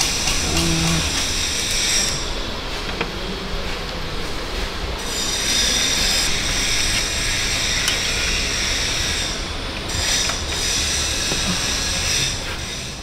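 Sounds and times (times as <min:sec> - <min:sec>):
mechanical workshop noise: 0:00.0 - 0:13.0.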